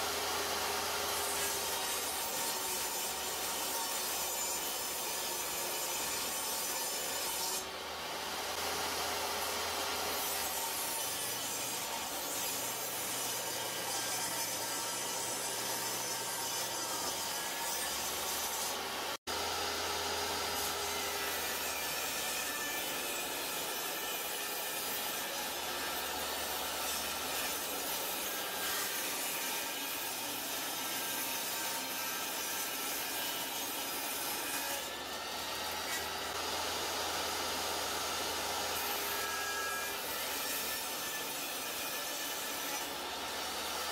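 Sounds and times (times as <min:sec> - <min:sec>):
table saw cutting wood: 0:00.0 - 0:43.9.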